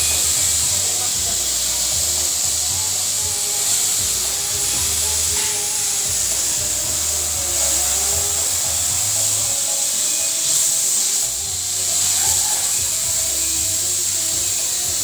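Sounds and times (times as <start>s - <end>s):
air assist hissing: 0.0s - 15.0s
laser cutter motor tones: 0.0s - 15.0s.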